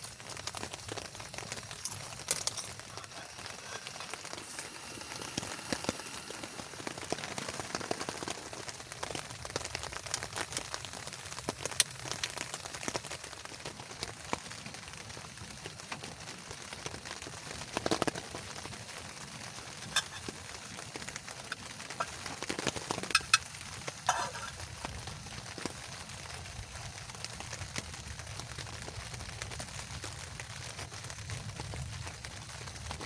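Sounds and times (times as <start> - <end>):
rain pattering: 0.0 - 33.0.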